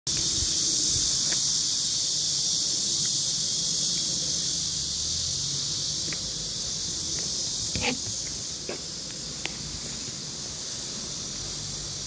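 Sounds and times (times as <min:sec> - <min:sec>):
cicadas buzzing: 0:00.1 - 0:12.0.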